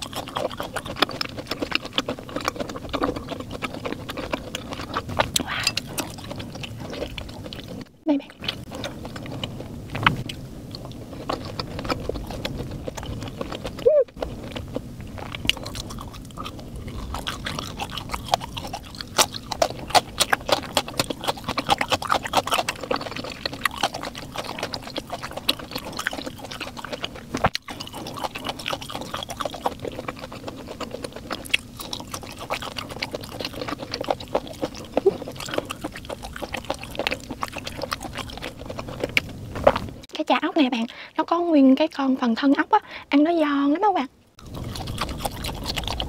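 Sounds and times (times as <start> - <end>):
woman chewing with mouth clicks: 0.0 - 40.1, 44.4 - 46.0.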